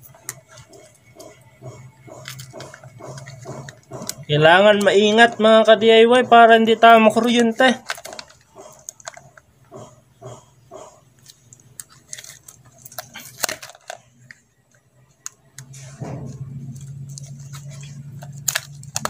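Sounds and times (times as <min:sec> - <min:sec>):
pliers working electrical wire: 0:00.0 - 0:14.4, 0:15.1 - 0:19.0
steady low hum: 0:00.0 - 0:19.0.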